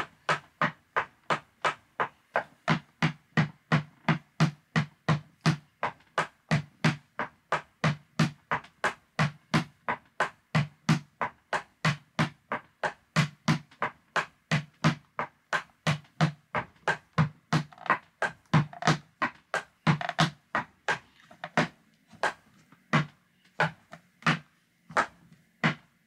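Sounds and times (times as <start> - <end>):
tap shoes on wooden floor: 0.0 - 26.0.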